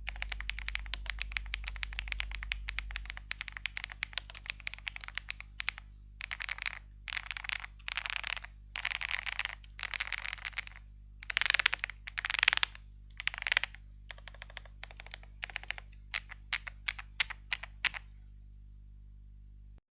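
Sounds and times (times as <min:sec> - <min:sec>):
mechanical keyboard typing: 0:00.0 - 0:18.1.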